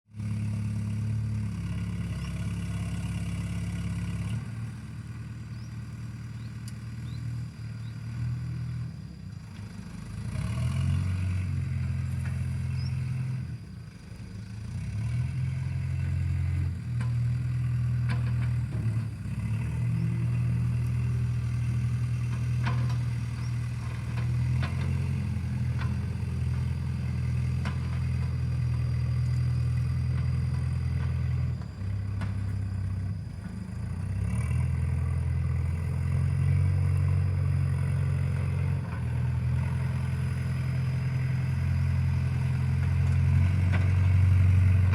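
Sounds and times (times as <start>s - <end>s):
diesel engine humming: 0.1s - 44.9s.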